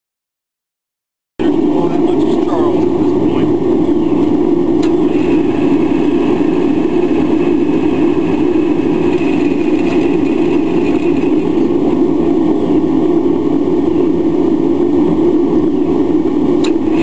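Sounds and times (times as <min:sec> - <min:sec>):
forge machinery roar: 0:01.4 - 0:17.0.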